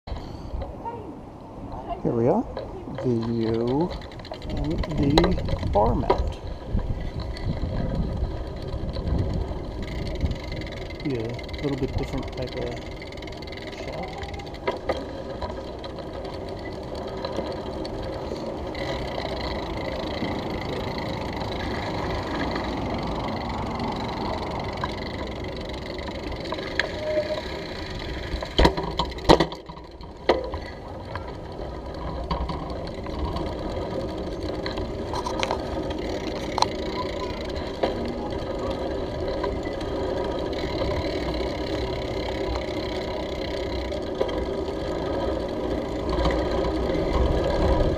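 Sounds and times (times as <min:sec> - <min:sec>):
bicycle rattling over brick paving: 0:00.1 - 0:01.0, 0:01.8 - 0:47.9.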